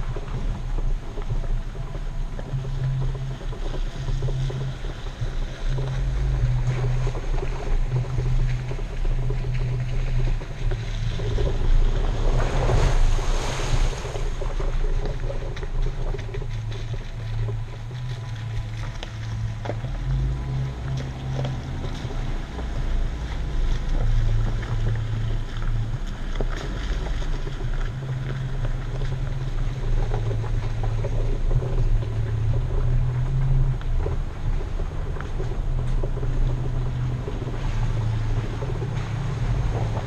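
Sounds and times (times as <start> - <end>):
car engine at low revs: 0.0 - 40.0
rushing noise: 0.0 - 40.0
wind rumble on microphone: 0.0 - 40.0.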